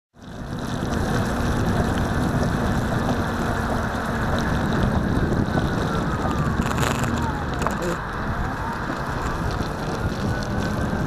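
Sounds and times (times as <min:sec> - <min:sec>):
tyre rolling through water: 0:00.6 - 0:11.0.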